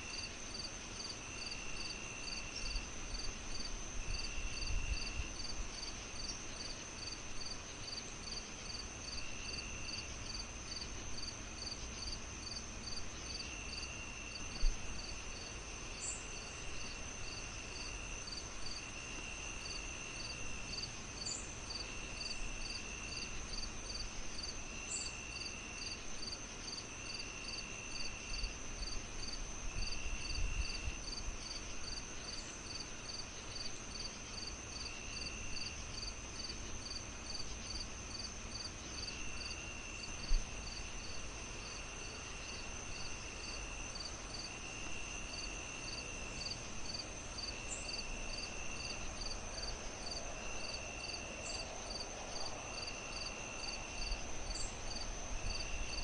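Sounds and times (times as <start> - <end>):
crickets chirping: 0.0 - 56.0
high insect drone: 0.0 - 56.0
insect trills: 0.0 - 56.0.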